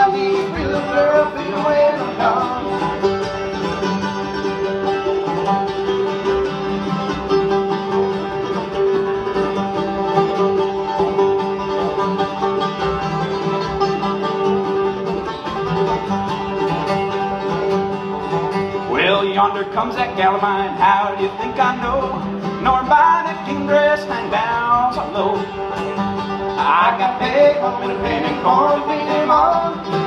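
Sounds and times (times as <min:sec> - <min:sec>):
acoustic guitar: 0:00.0 - 0:30.0
banjo: 0:00.0 - 0:30.0
mandolin: 0:00.0 - 0:30.0
upright bass: 0:00.0 - 0:30.0.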